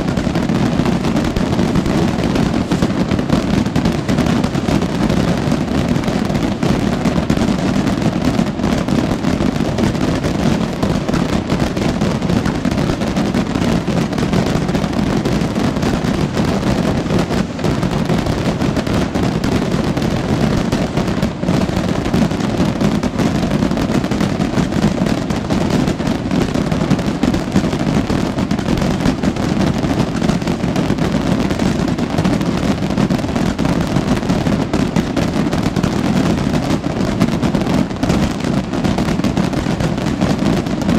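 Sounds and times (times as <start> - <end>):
firework rockets exploding: 0.0 - 40.9.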